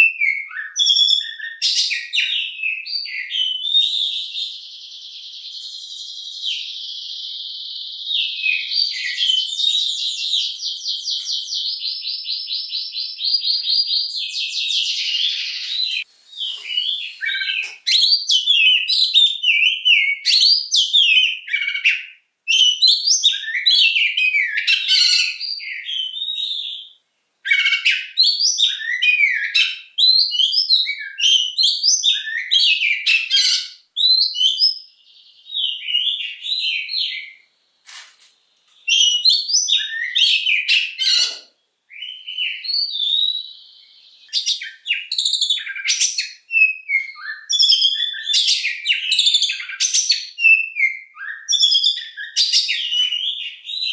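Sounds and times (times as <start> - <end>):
bird singing trills and whistles: 0.0 - 37.6, 38.8 - 53.9.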